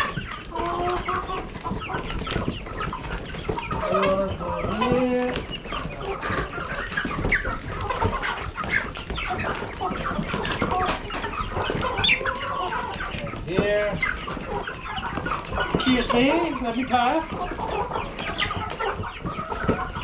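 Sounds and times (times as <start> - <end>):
hens clucking and squawking: 0.0 - 20.0.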